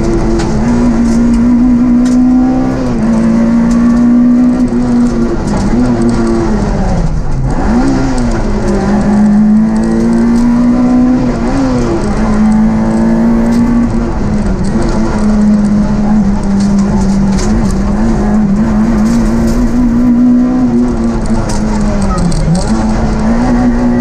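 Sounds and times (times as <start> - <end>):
car engine at high revs: 0.0 - 24.0.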